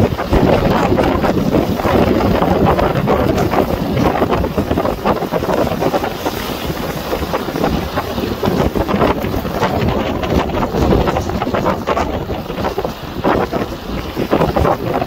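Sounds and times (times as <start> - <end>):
waves breaking against seawall: 0.0 - 15.0
wind buffeting microphone: 0.0 - 15.0.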